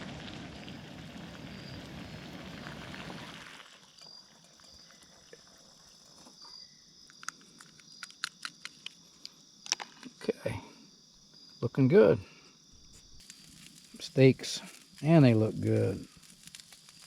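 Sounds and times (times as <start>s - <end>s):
campfire crackling and popping: 0.0s - 6.2s, 7.0s - 10.3s, 12.8s - 17.0s
insects chirping: 0.1s - 17.0s.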